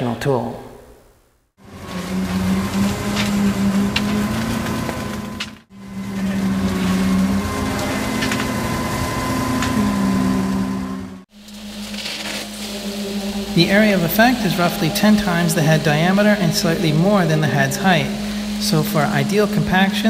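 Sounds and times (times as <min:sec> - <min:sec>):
concrete vibrator machine hum: 0:01.6 - 0:20.0.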